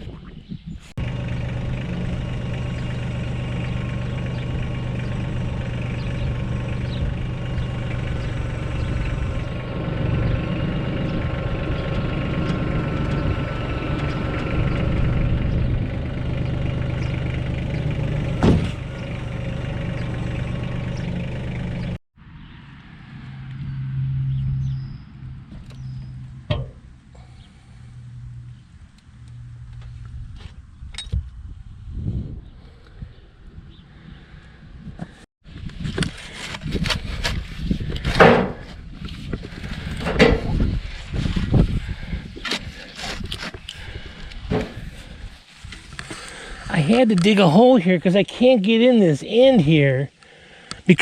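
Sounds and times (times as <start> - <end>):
vehicle engine humming: 1.0 - 32.0, 37.6 - 51.0.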